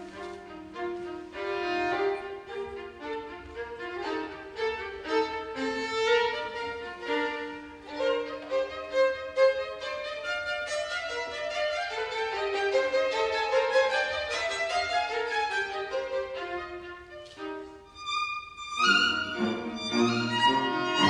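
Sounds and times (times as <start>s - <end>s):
string orchestra playing: 0.0s - 21.0s.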